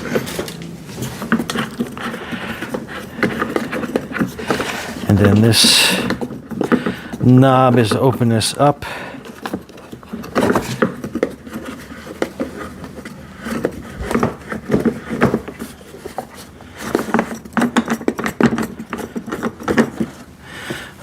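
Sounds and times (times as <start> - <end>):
plastic housing knocks and scrapes: 0.0 - 7.4, 9.2 - 20.3.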